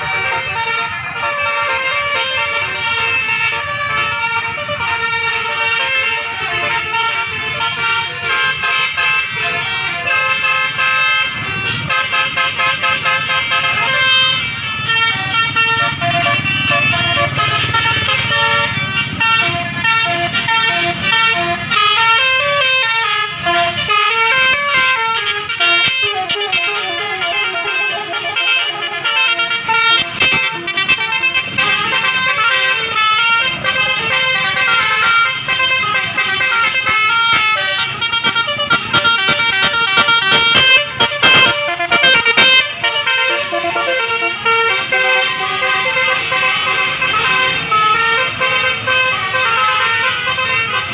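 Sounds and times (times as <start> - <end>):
musical air horn melody: 0.0 - 50.9.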